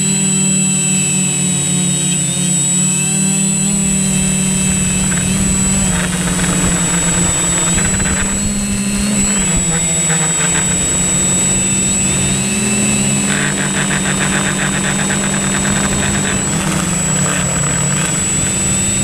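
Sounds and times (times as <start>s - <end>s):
drone propellers humming: 0.0s - 19.0s
wind noise on microphone: 3.5s - 19.0s.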